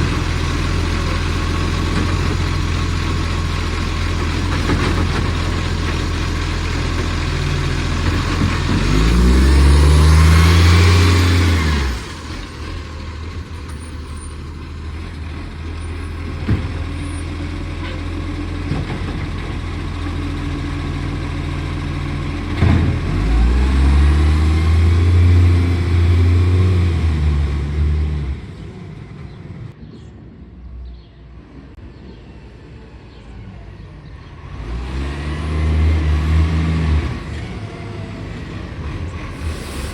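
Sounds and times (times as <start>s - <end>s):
diesel truck engine idling and revving: 0.0s - 29.8s, 30.6s - 39.9s.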